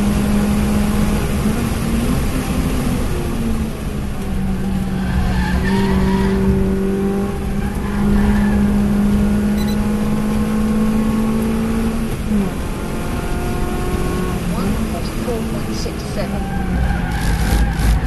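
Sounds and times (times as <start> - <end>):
car engine accelerating: 0.0 - 18.0
road and wind noise: 0.0 - 18.0.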